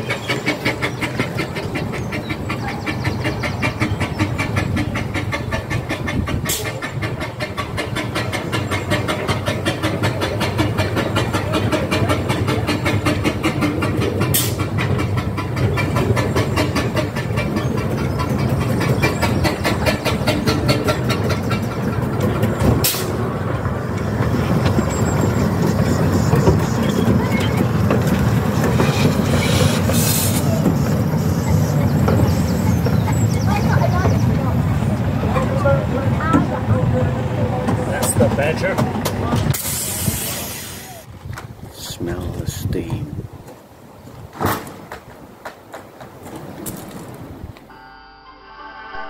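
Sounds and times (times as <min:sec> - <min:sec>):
steam locomotive rhythmic clatter: 0:00.0 - 0:42.0, 0:43.5 - 0:47.6.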